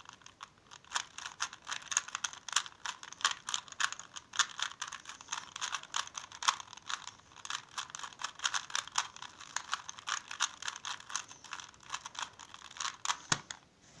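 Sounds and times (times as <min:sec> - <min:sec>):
puzzle cube layers clicking: 0:00.0 - 0:13.6.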